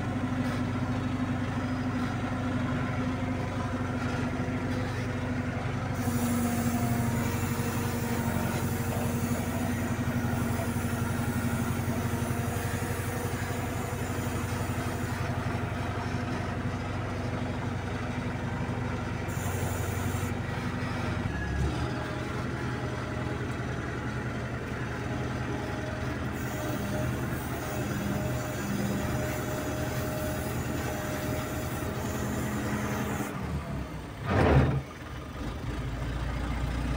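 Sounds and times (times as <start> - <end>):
crane diesel engine running: 0.0 - 36.9.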